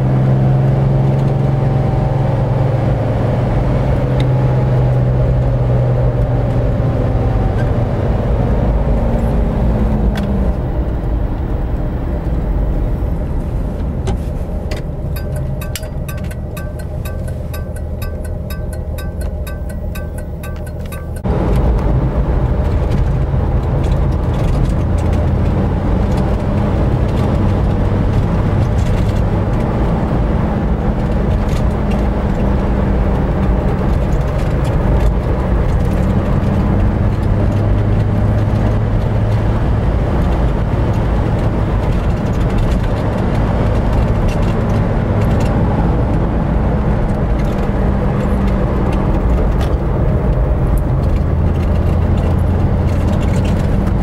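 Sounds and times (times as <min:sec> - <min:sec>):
car engine running: 0:00.0 - 0:54.0
road noise: 0:00.0 - 0:54.0.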